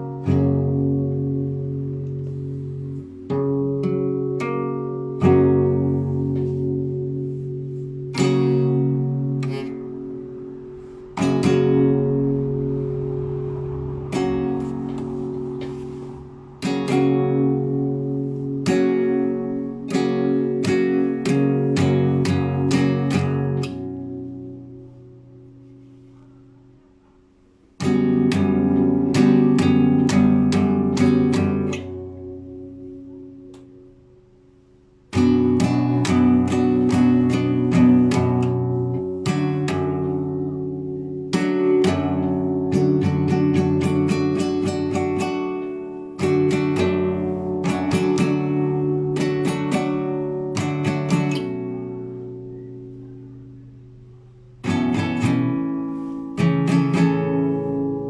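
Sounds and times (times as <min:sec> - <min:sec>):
acoustic guitar chords: 0:00.0 - 0:58.0.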